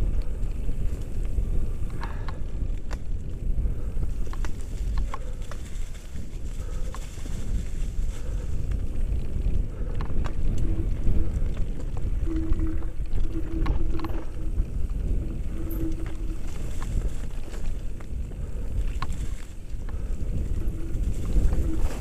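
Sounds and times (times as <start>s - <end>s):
bike clicks and knocks: 0.0s - 7.6s, 8.6s - 22.0s
hum: 0.0s - 22.0s
low rumble of bike ride: 0.0s - 22.0s.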